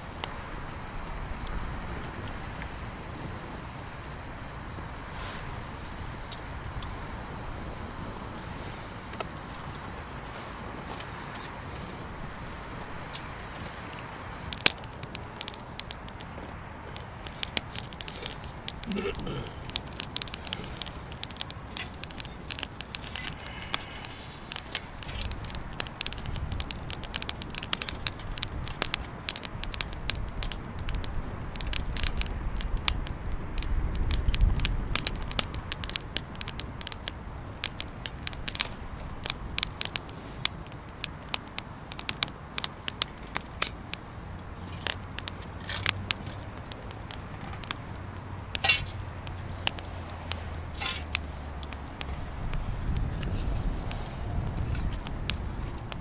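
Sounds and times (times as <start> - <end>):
wood bonfire crackling: 0.0 - 56.0.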